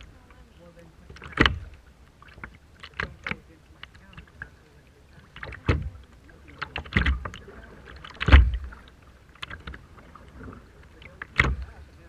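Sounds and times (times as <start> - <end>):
sea water splashing and sloshing: 0.0 - 12.0.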